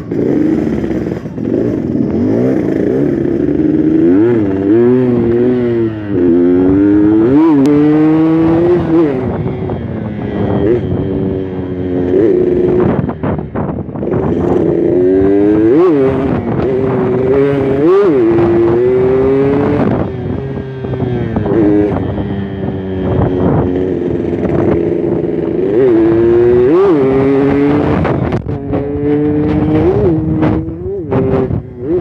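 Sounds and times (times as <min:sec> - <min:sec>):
two-stroke motorcycle engine: 0:00.0 - 0:32.0.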